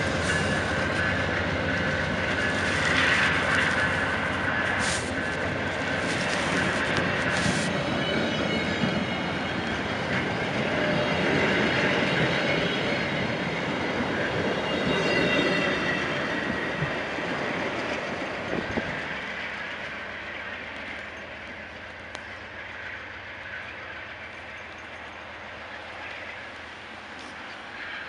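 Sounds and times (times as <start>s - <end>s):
train wheels rushing on rail: 0.0s - 28.0s.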